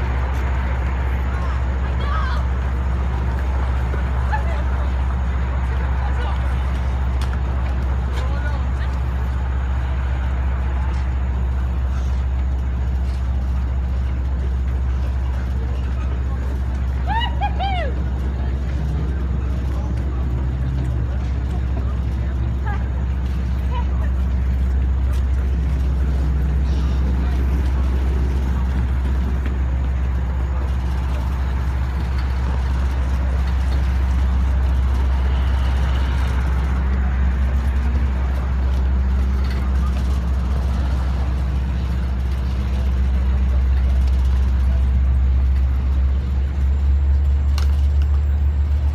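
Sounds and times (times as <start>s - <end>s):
diesel locomotive idling: 0.0s - 48.9s.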